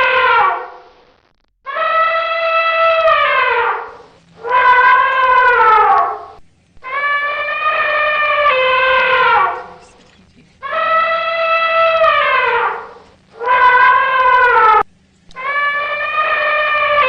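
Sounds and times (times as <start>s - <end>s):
elephant trumpeting: 1.7s - 17.0s.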